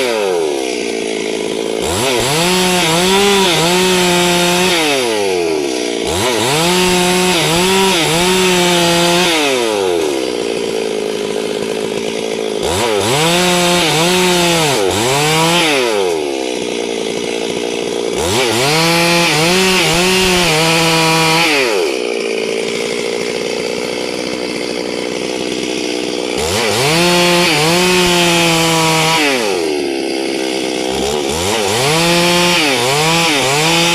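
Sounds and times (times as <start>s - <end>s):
chainsaw revving and cutting wood: 0.0s - 33.9s.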